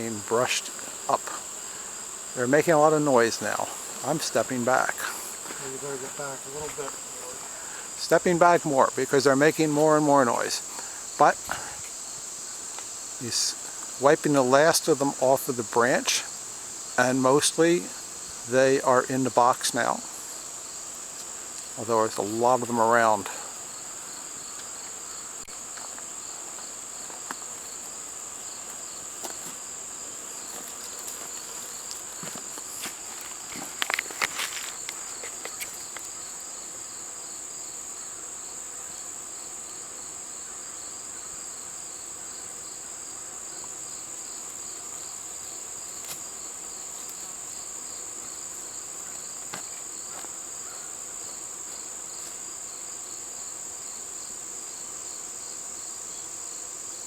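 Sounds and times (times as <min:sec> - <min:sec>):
high-pitched insect trill: 0:00.0 - 0:57.0
pulsing insect trill: 0:00.0 - 0:57.0.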